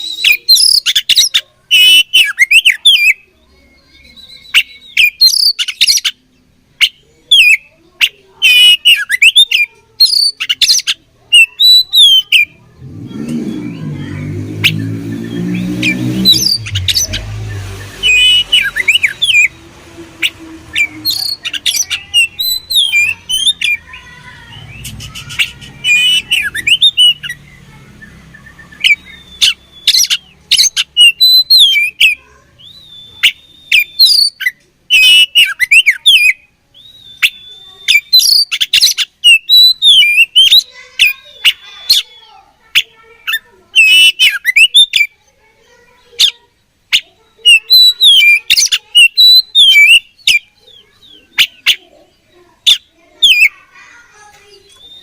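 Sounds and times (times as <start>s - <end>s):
magpie-robin singing: 0.0s - 55.0s.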